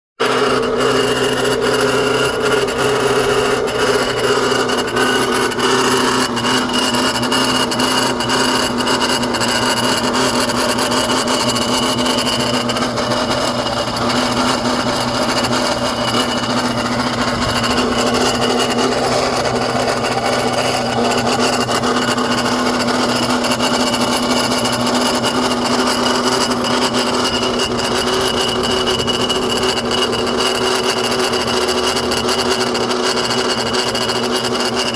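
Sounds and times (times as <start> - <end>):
car engine running: 0.2 - 34.9
steady grinding noise: 0.2 - 34.9.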